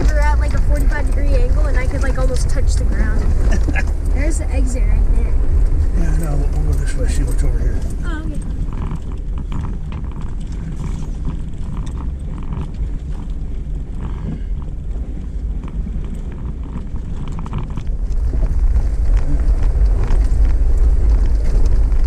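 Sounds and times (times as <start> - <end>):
engine and tyre rumble: 0.0 - 22.0.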